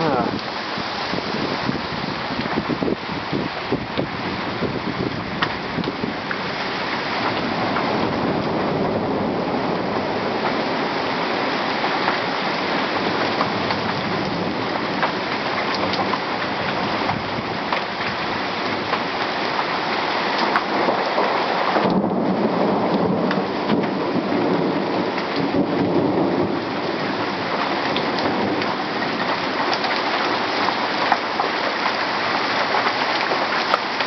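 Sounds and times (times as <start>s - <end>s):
thunder rumbling: 0.0s - 19.0s, 20.6s - 29.6s
heavy rain pouring: 0.0s - 34.0s.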